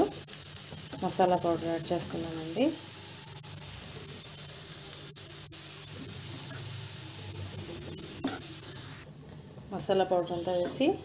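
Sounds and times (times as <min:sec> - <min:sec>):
leaves and lentils sizzling in oil: 0:00.0 - 0:09.1, 0:09.7 - 0:11.0.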